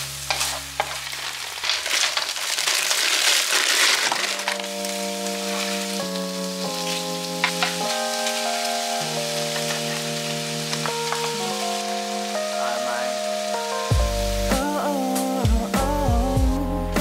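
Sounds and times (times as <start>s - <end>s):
meat sizzling in a frying pan: 0.0s - 15.7s.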